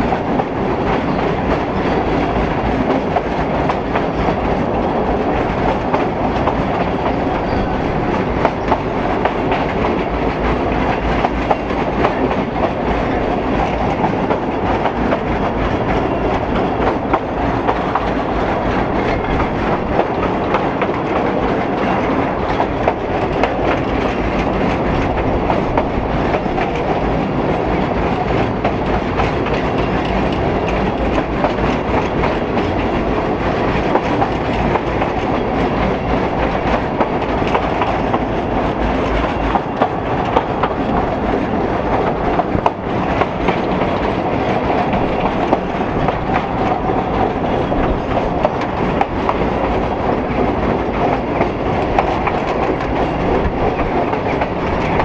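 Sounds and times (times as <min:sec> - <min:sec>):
rail joint clicks: 0:00.0 - 0:55.0
train wheels rumbling on rails: 0:00.0 - 0:55.0.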